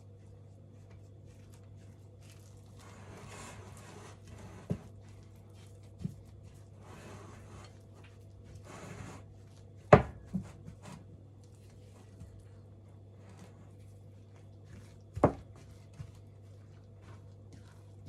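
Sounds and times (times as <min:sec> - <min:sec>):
dough being stirred in bowl: 0:00.0 - 0:18.0.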